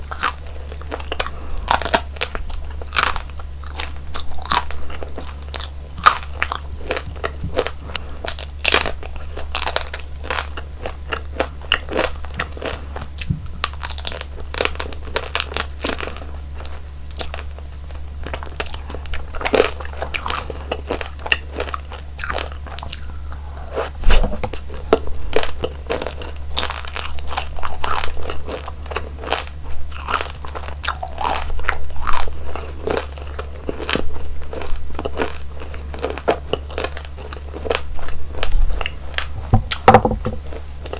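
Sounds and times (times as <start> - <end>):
person chewing crunchy food: 0.0 - 40.9
steady low hum: 0.0 - 40.9.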